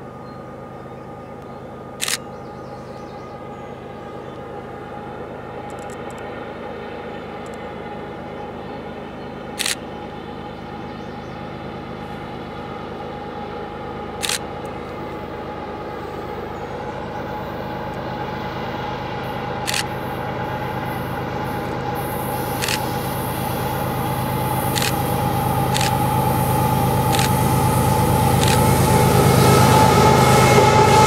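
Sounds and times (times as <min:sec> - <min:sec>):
diesel locomotive engine drone: 0:00.0 - 0:31.0
train track noise: 0:00.0 - 0:31.0.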